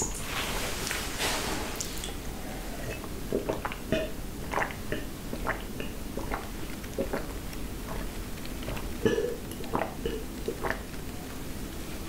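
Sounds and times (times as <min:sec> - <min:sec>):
gulping water: 0:01.9 - 0:11.6.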